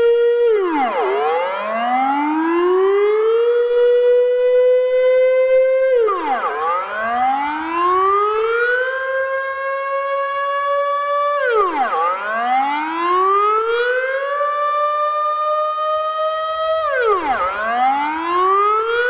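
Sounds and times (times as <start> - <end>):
warning siren wailing: 0.0 - 19.0.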